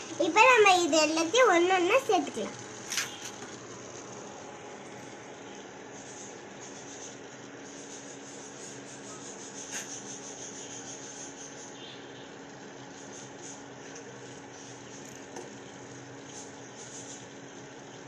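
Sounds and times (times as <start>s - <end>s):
water boiling in a pot: 0.0s - 18.0s.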